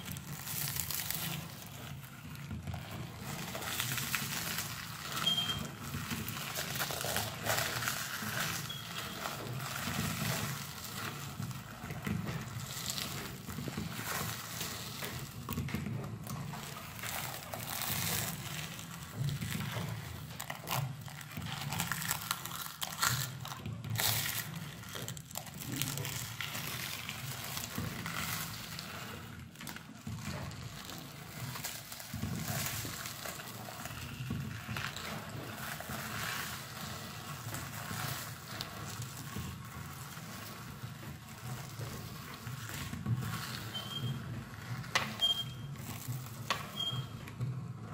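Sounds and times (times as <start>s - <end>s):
food crunching in meat grinder: 0.0s - 47.9s.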